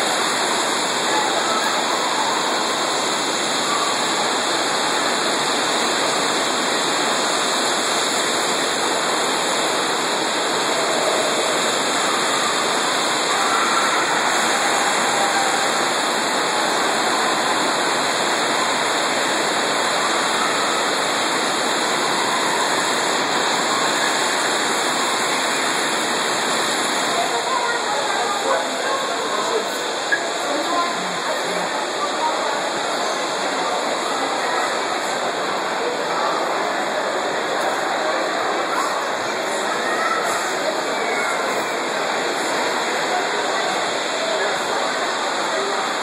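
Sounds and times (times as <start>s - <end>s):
heavy rain on roof: 0.0s - 46.0s.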